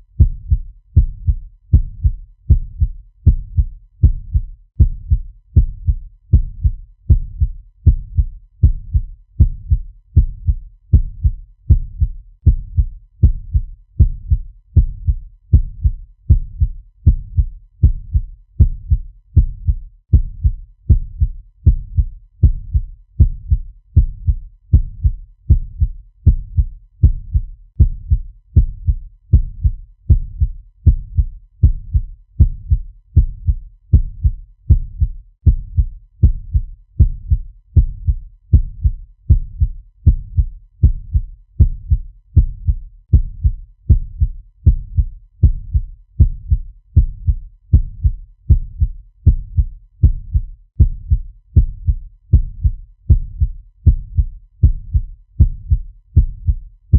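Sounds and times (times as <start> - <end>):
heartbeat thumps: 0.0 - 56.6.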